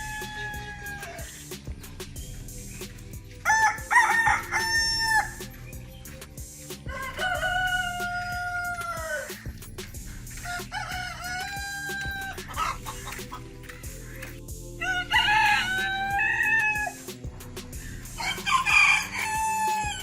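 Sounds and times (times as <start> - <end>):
roosters crowing: 0.0 - 20.0.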